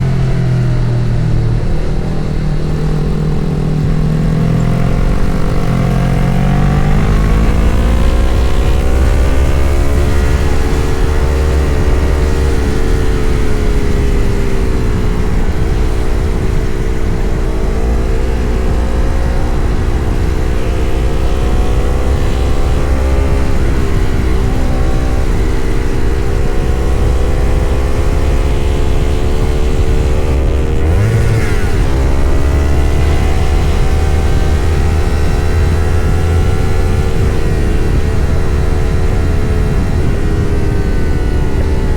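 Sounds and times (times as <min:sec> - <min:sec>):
motorcycle engine accelerating: 0:00.0 - 0:41.9
steady low rumble: 0:00.0 - 0:41.9.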